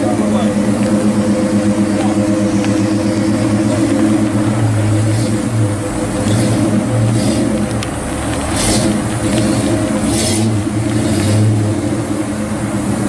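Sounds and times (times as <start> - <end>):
car engine exhaust rumble: 0.0 - 13.0.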